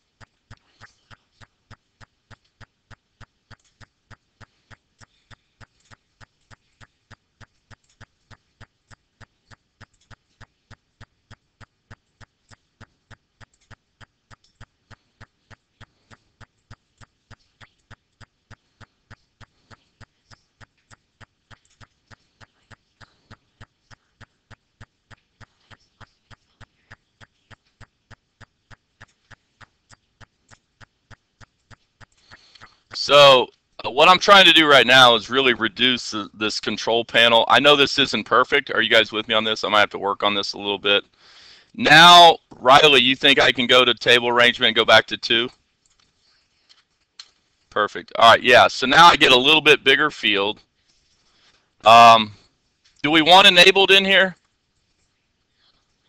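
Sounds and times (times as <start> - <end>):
faint steady ticking: 0.0 - 56.0.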